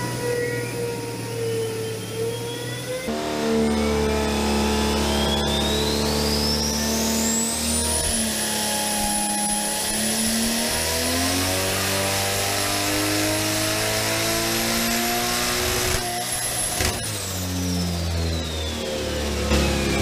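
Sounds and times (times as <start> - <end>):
engine running under load: 0.0 - 20.0
turbo whine: 0.0 - 20.0.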